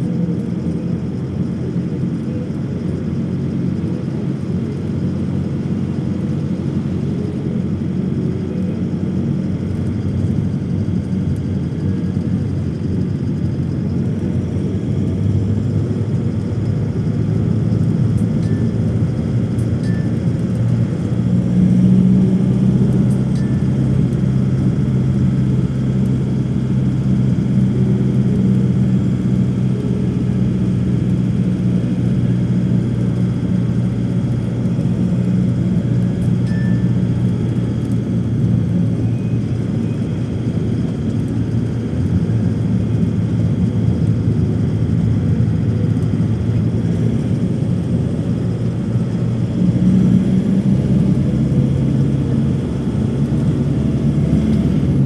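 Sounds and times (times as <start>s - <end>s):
airliner engines droning: 0.0s - 55.0s.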